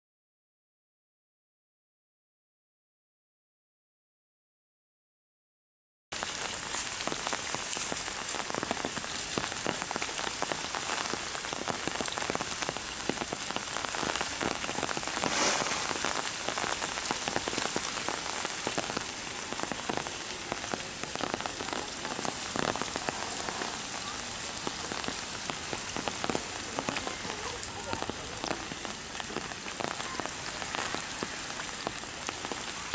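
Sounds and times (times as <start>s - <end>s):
heavy rain falling: 6.2s - 32.9s.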